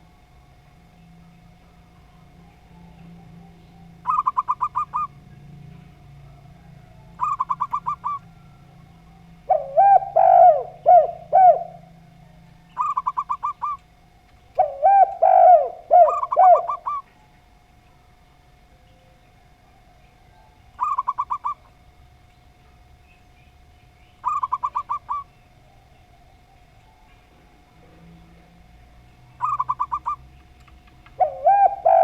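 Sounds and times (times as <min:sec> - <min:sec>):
doves cooing: 0:00.0 - 0:17.6, 0:19.0 - 0:22.0, 0:23.5 - 0:32.0
faint steady hum: 0:00.0 - 0:32.0.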